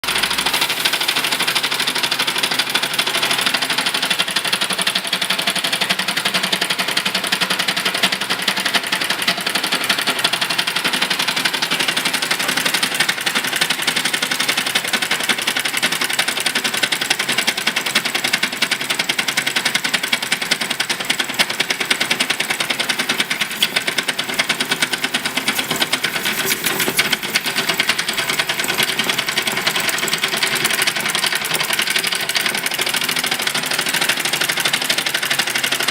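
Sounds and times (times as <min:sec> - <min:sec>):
model engine running: 0:00.0 - 0:35.9.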